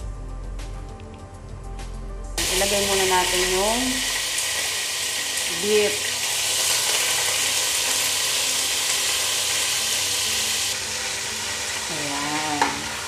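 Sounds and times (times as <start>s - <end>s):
meat sizzling in oil: 2.4s - 13.0s.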